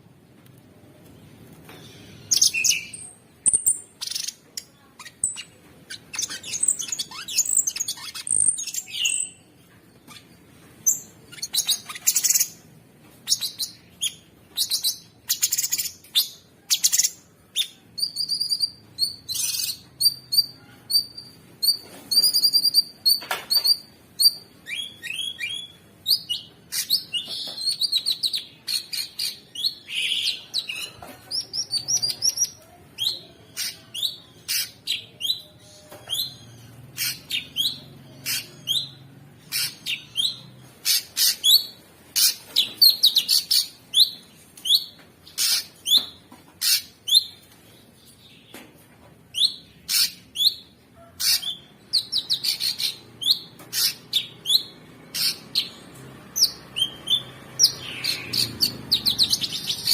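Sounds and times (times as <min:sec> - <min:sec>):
songbird chirping and trilling: 0:01.0 - 0:59.9.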